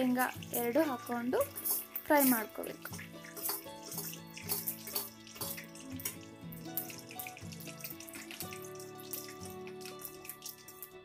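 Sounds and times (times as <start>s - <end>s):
background music with held notes: 0.0s - 11.0s
hot oil sizzling and crackling: 0.0s - 11.0s.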